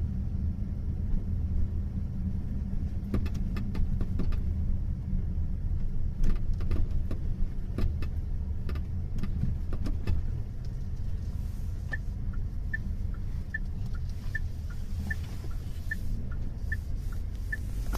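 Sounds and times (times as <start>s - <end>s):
low road and engine rumble: 0.0s - 17.9s.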